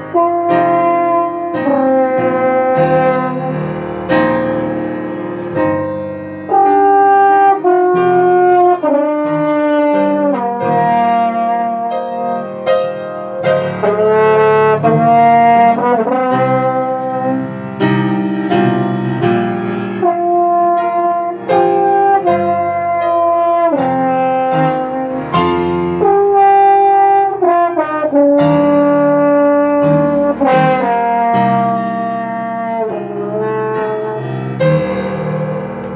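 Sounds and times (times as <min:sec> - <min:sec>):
french horn melody: 0:00.0 - 0:19.2, 0:19.9 - 0:35.9
piano accompaniment: 0:00.0 - 0:35.9.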